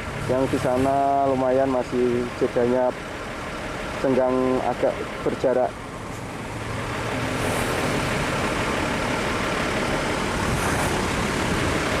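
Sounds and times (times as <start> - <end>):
heavy trucks passing: 0.0 - 12.0.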